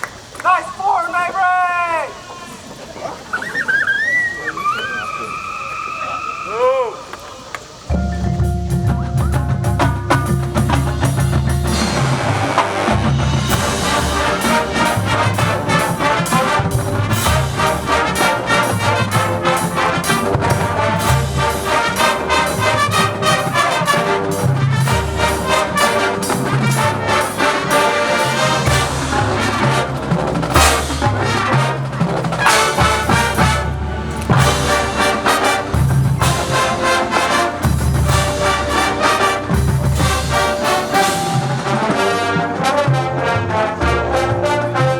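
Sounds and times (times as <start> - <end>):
drums: 0.0 - 44.9
marching band playing: 7.4 - 44.9
brass playing: 7.9 - 44.9
pulsing low brass line: 7.9 - 44.9.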